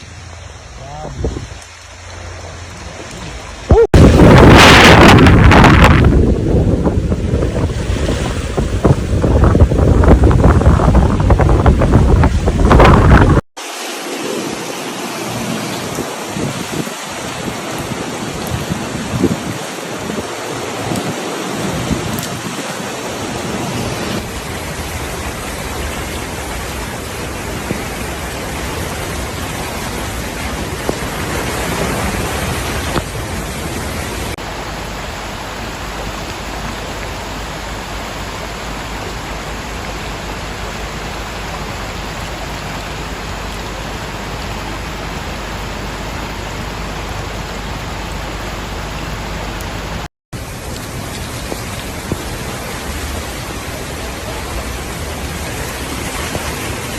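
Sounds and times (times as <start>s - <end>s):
heavy storm rain: 0.0s - 56.9s.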